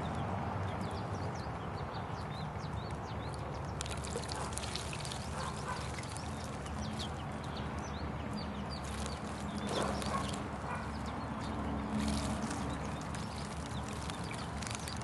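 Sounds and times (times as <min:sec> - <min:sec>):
birds splashing water: 0:00.0 - 0:15.0
songbirds chirping: 0:00.0 - 0:15.0.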